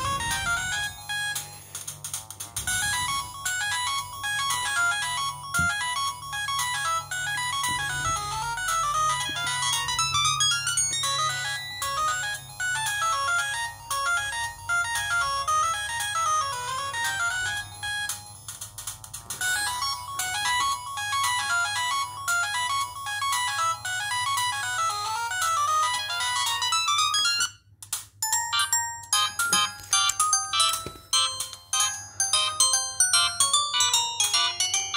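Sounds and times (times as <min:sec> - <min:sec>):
phone ringtone melody: 0:00.0 - 0:34.9.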